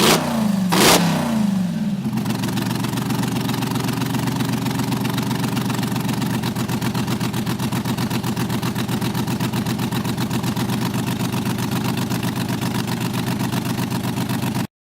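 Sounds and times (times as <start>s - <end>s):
race car engine running: 0.0s - 14.7s.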